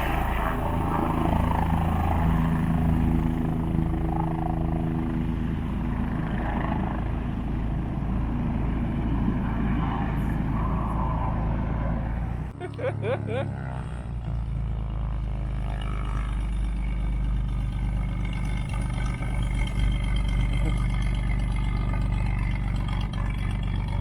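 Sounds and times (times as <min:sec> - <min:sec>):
helicopter engine and rotor drone: 0:00.0 - 0:24.0
multi-tone hum: 0:00.0 - 0:24.0.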